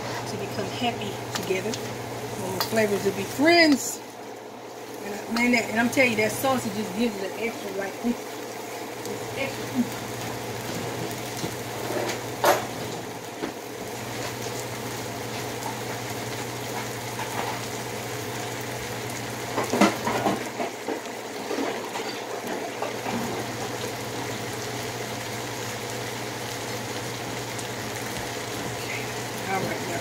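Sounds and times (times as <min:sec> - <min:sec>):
sauce simmering and sizzling: 0:00.0 - 0:30.0.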